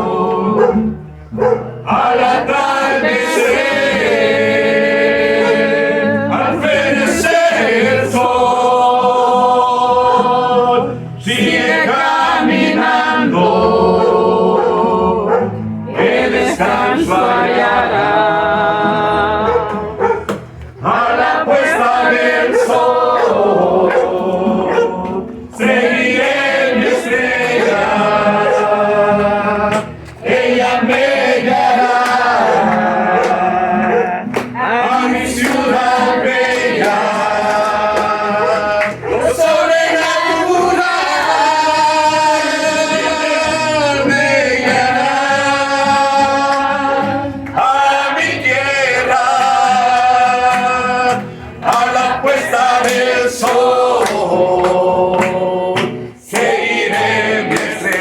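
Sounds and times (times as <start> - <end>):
man and group singing a hymn: 0.0 - 58.0.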